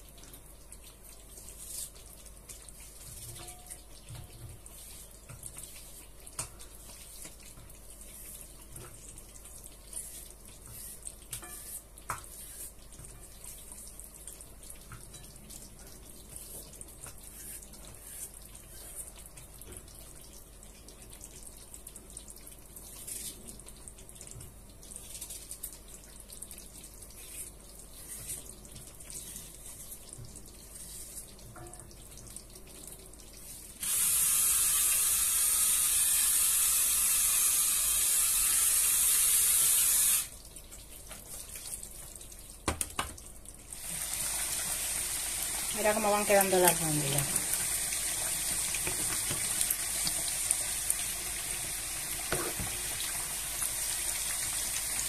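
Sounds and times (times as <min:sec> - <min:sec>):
potatoes frying in oil: 0:00.0 - 0:55.0.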